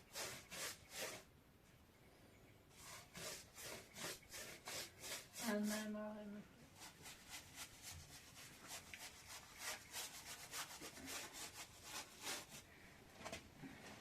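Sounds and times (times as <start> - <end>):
faint scraping strokes: 0.0 - 1.3, 2.7 - 6.1, 6.7 - 14.0.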